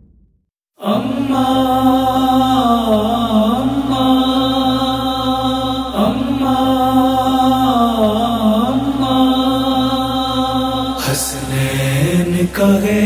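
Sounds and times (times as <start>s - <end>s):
vocal chorus chanting mournfully: 0.8s - 13.0s
low drone: 0.9s - 13.0s.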